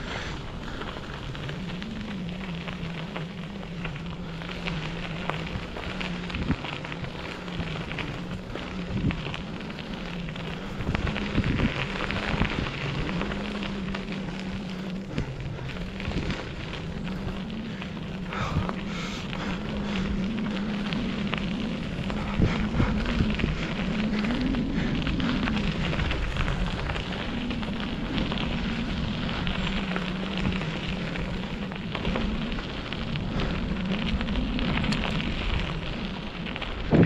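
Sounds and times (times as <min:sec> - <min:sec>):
bicycle tyres rolling on dirt: 0:00.0 - 0:37.0
low hum: 0:00.0 - 0:37.0.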